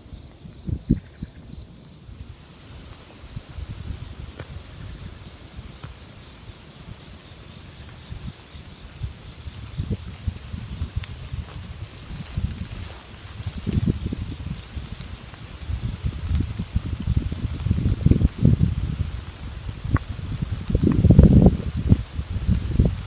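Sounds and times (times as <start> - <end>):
high-pitched insect trilling: 0.0 - 23.0
insects chirping: 0.0 - 23.0.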